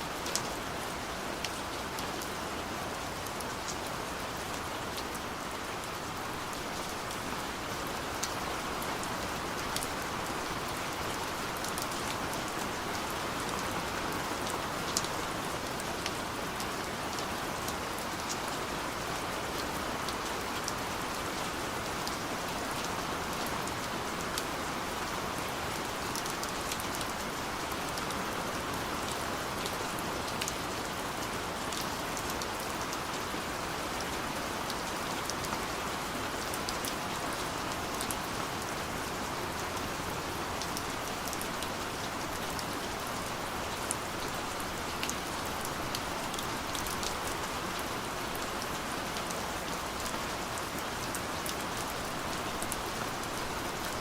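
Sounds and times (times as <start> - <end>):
raindrops ticking on a surface: 0.1 - 54.0.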